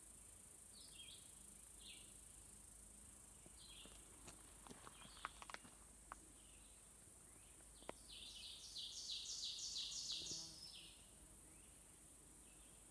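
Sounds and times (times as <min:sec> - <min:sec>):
songbird singing: 0:00.7 - 0:02.6, 0:03.3 - 0:04.2, 0:04.8 - 0:12.9.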